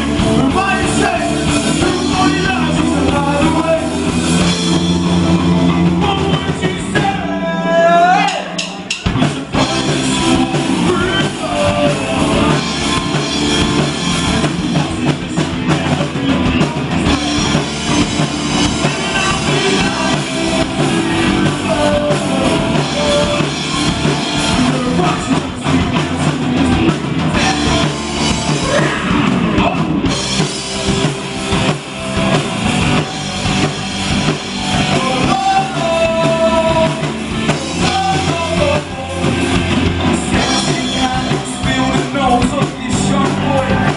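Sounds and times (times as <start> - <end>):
person singing lead vocal: 0.0 - 31.1, 32.7 - 43.9
live rock band playing: 0.0 - 43.9.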